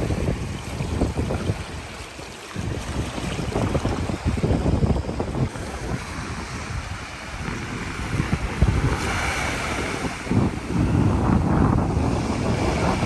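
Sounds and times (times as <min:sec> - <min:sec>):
surf washing up shore: 0:00.0 - 0:13.0
waves breaking on rocks: 0:00.0 - 0:13.0
wind buffeting microphone: 0:00.0 - 0:13.0.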